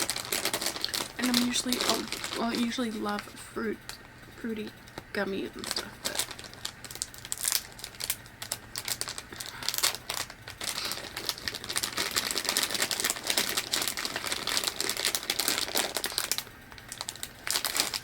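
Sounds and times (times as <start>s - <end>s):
snack package crinkling: 0.0s - 3.3s, 4.8s - 18.0s.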